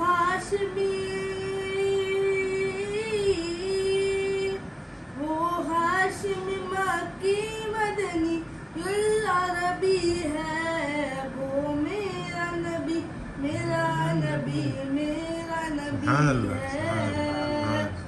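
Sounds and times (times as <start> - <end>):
boy singing unaccompanied: 0.0 - 4.6, 5.2 - 18.0.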